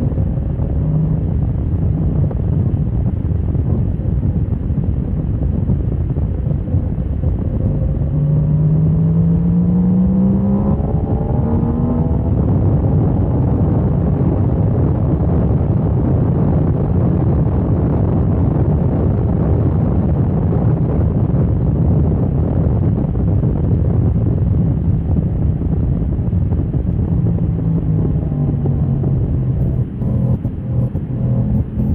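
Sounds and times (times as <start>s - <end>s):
motorcycle engine climbing in pitch: 0.0s - 31.9s
wind rush over microphone: 0.0s - 31.9s.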